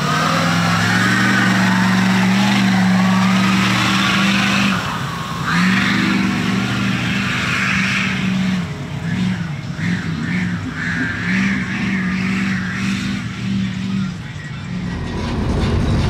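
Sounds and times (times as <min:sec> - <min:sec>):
engine revving high: 0:00.0 - 0:16.0.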